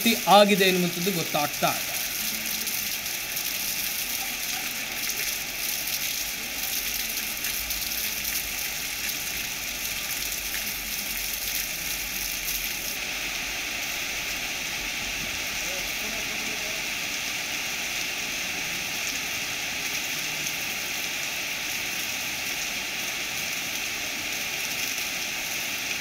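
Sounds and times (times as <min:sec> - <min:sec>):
heavy rain on roofs and street: 0:00.0 - 0:26.0.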